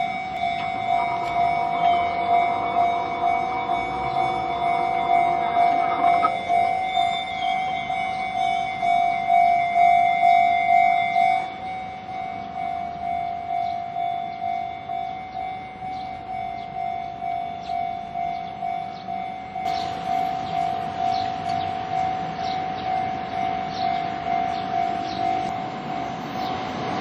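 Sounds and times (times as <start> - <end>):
level-crossing bell ringing: 0.0 - 26.6.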